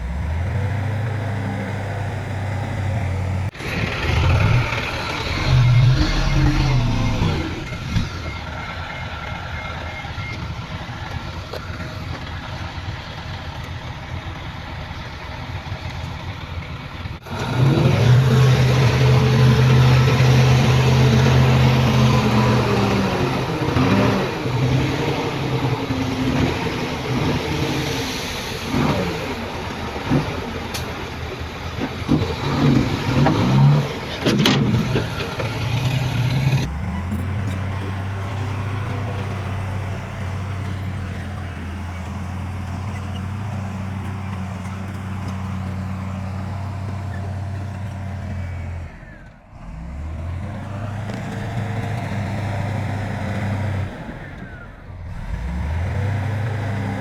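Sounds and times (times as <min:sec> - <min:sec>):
heavy diesel machinery engine: 0:00.0 - 0:57.0.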